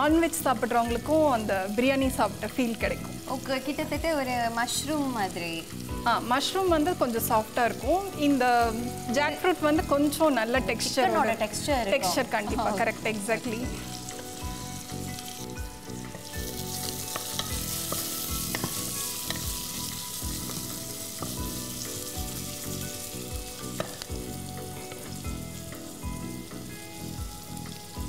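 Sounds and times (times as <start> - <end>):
onions sizzling: 0.0 - 28.0.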